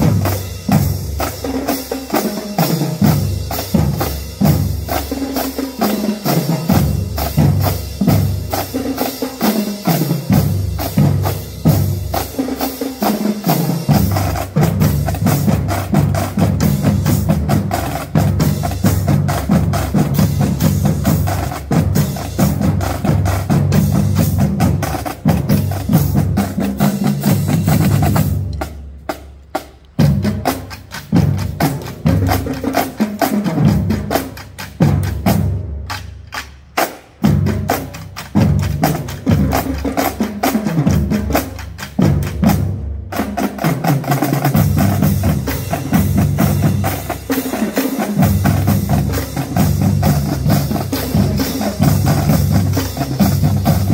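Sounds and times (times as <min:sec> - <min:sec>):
marching drum line: 0:00.0 - 0:53.9.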